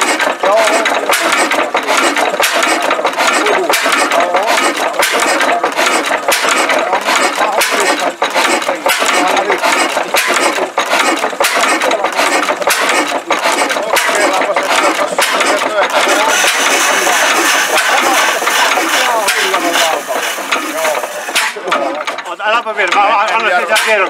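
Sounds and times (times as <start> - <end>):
old engine clattering: 0.0 - 24.0.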